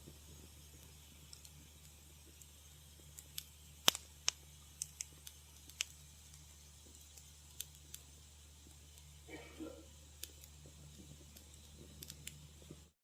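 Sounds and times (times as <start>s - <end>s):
low steady hum: 0.0s - 13.0s
wood fire crackling: 0.0s - 13.0s.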